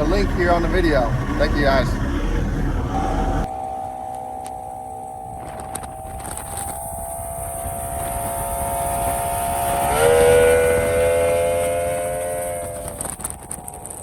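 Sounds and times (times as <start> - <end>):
boat engine revving: 0.0 - 14.0.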